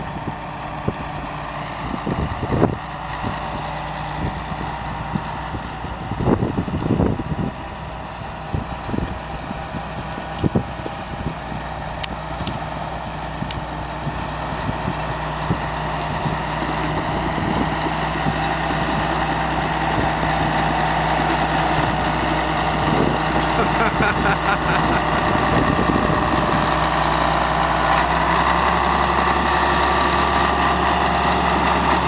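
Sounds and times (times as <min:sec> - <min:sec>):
dozer diesel engine running: 0:00.0 - 0:32.0.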